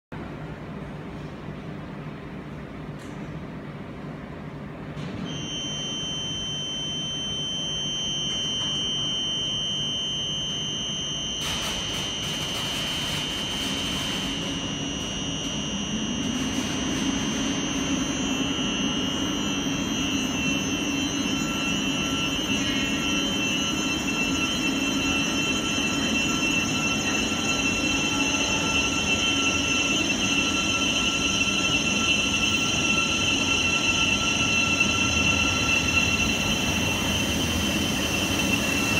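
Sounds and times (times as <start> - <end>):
electric train whine: 4.9 - 38.9.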